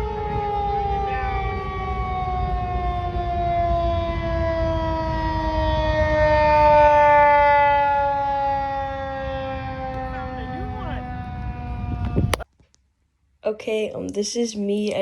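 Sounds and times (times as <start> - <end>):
rotating warning siren wailing: 0.0 - 12.4.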